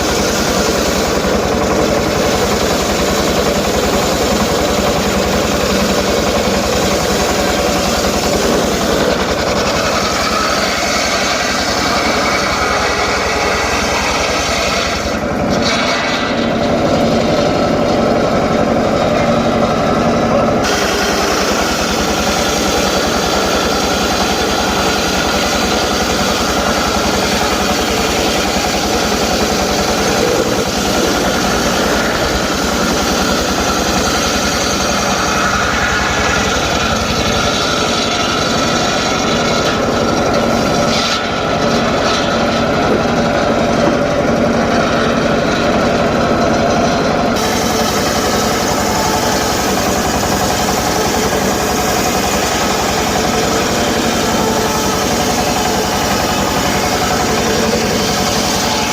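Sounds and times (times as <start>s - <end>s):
circular saw cutting wood: 0.0s - 58.9s.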